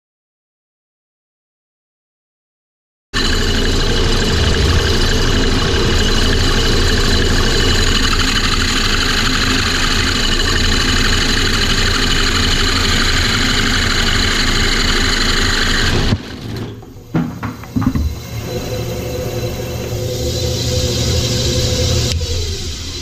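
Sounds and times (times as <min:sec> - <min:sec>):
drill press hole saw cutting wood: 0:03.2 - 0:23.0
wood lathe running: 0:03.2 - 0:23.0.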